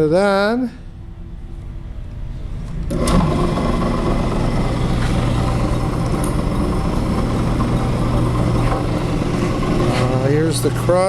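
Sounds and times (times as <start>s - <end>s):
brake lathe motor hum: 1.5s - 11.0s.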